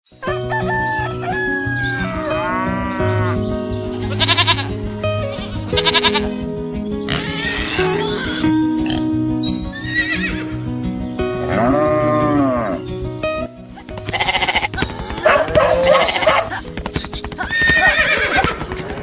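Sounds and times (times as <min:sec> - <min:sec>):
background music with held notes: 0:00.1 - 0:19.0
farm animal calls: 0:00.2 - 0:10.6, 0:11.4 - 0:12.9, 0:13.8 - 0:19.0.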